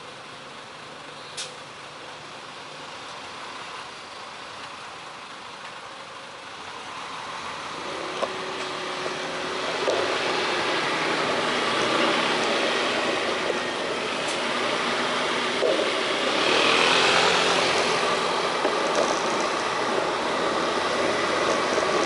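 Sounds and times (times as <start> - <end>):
road and traffic noise: 0.0 - 22.0.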